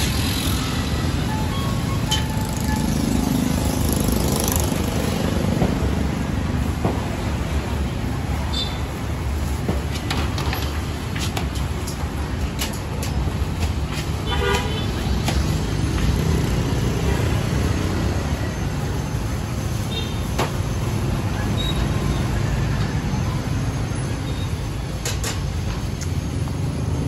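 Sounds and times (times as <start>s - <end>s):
street traffic engines: 0.0s - 27.0s.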